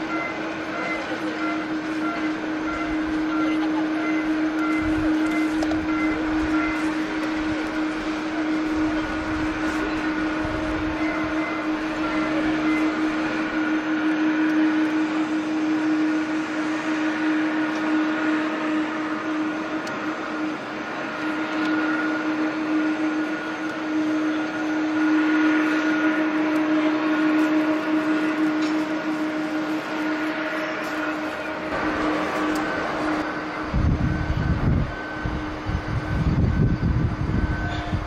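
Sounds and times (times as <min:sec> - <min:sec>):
jet engine drone: 0:00.0 - 0:38.0.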